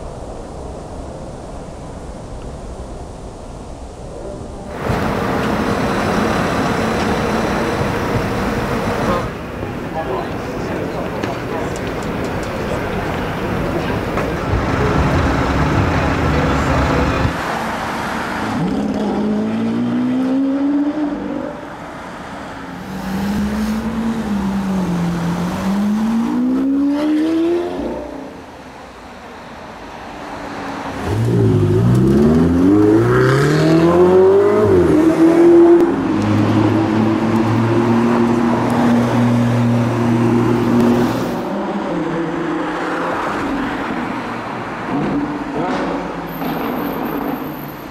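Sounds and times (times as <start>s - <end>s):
traffic noise: 0.0s - 47.9s
sports car engines accelerating: 4.8s - 28.4s, 30.9s - 47.7s.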